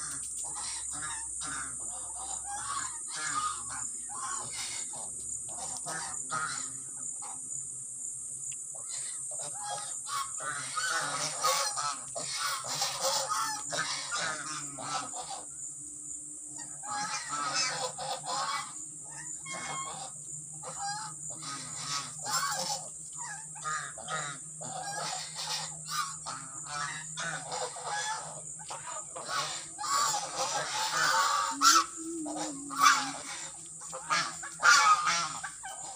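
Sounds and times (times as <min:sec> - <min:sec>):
geese honking: 0:00.0 - 0:07.4, 0:08.8 - 0:15.6, 0:16.6 - 0:35.9.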